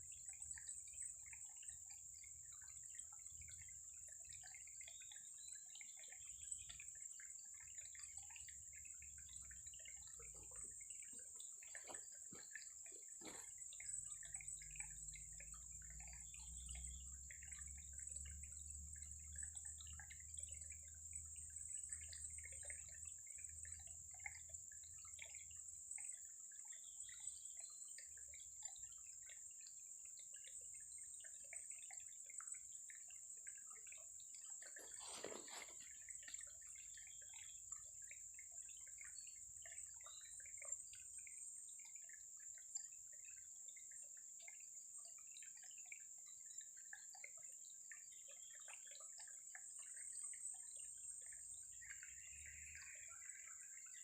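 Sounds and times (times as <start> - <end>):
small water drips: 0.0 - 54.0.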